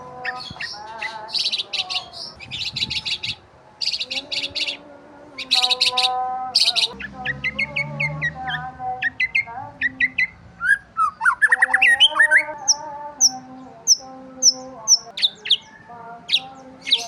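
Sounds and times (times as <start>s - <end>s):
songbirds chirping and twittering: 0.0s - 17.0s.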